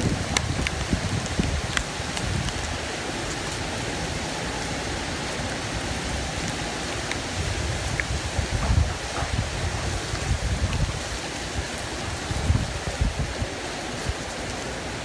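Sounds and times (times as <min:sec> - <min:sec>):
heavy rain hiss: 0:00.0 - 0:15.0
raindrops ticking close by: 0:00.0 - 0:15.0
wind rumbling on microphone: 0:00.0 - 0:15.0.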